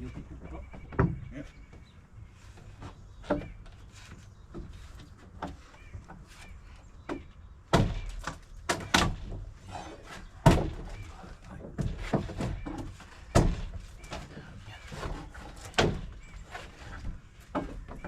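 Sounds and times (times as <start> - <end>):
knocks and thuds on wooden boards: 0.0 - 18.0.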